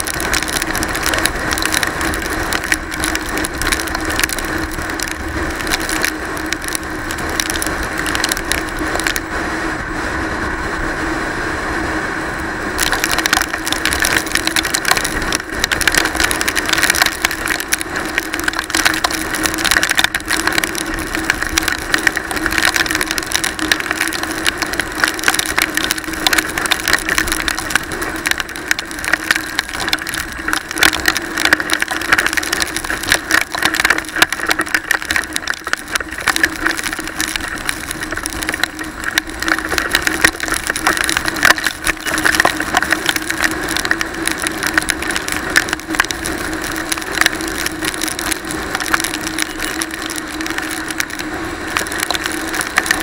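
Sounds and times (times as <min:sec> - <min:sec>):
rain spattering on camera: 0:00.0 - 0:53.0.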